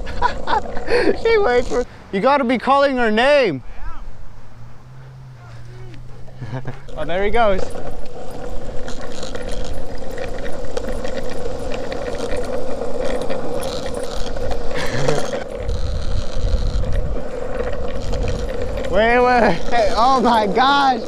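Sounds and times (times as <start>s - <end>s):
skateboard wheels rolling on asphalt: 0.0s - 21.0s
wind rumbling on microphone: 3.6s - 21.0s.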